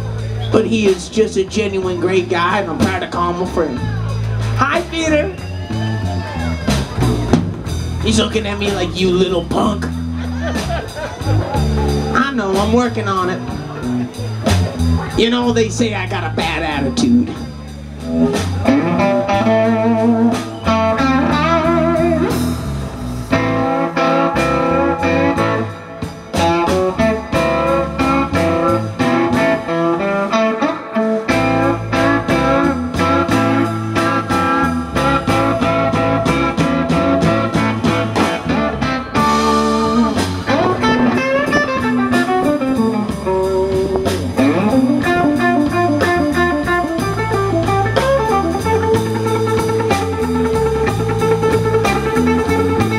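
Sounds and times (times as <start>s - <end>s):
electric guitar bending notes: 0.0s - 52.9s
live blues band playing: 0.0s - 52.9s.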